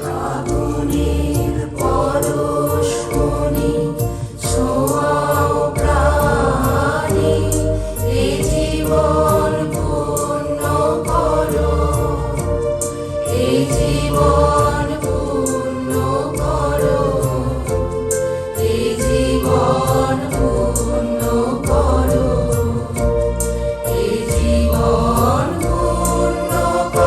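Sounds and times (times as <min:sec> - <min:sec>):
bass: 0:00.0 - 0:27.0
song through speakers: 0:00.0 - 0:27.0
steady drum beat: 0:00.0 - 0:27.0.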